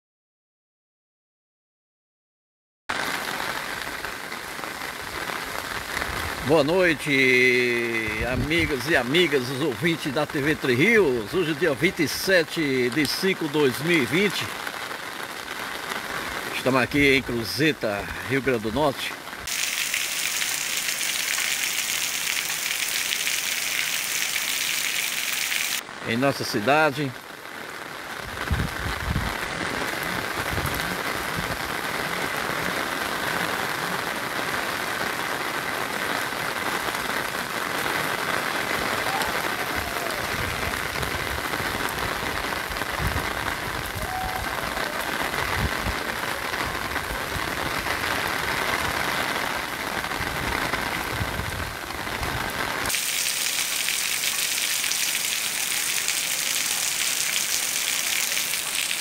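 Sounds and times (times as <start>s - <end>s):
rain on pavement: 2.9s - 59.0s.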